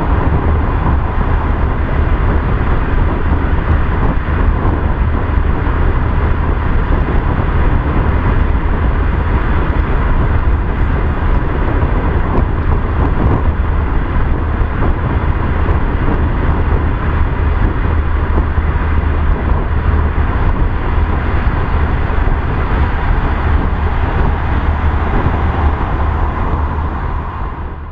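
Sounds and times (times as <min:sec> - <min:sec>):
car road and engine noise: 0:00.0 - 0:27.9.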